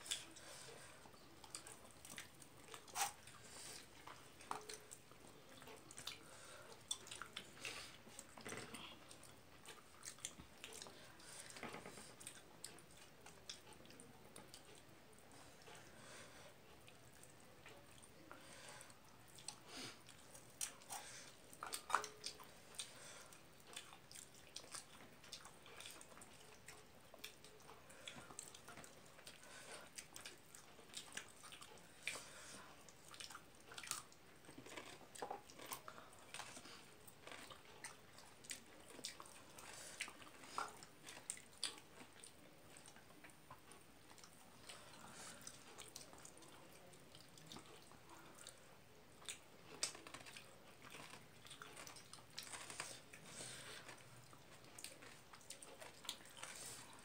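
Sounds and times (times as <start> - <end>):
wet chewing: 0.0 - 57.0.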